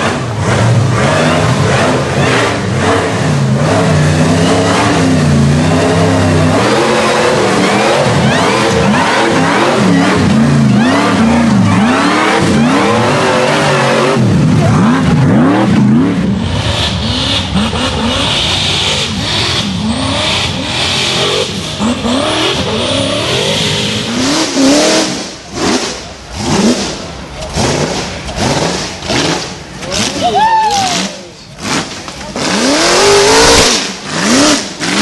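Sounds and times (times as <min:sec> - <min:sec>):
buggy engines revving: 0:00.0 - 0:35.0.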